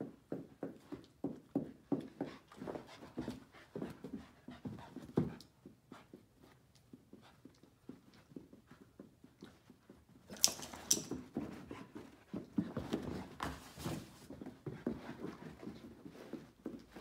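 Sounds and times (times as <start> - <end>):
dogs scuffling and mouthing: 2.5 - 17.0.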